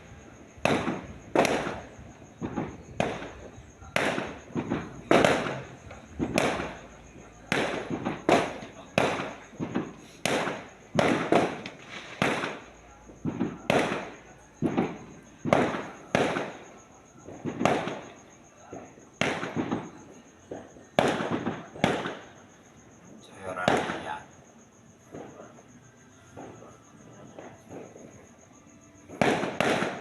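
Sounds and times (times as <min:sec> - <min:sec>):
fireworks bangs with rumbling echo: 0:00.0 - 0:30.0.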